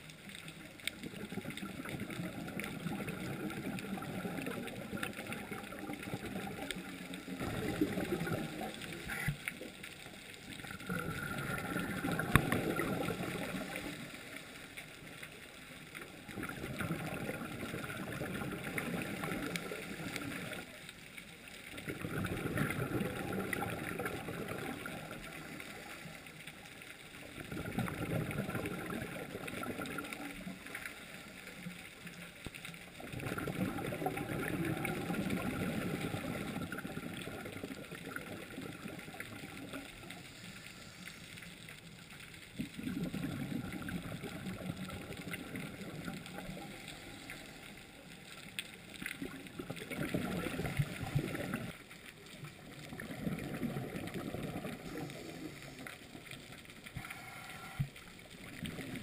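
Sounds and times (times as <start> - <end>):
muffled underwater bubbling: 0.0 - 59.0.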